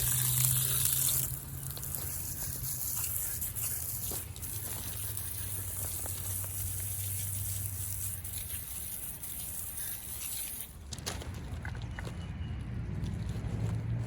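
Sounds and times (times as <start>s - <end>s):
water spraying onto wheels: 0.0s - 12.2s.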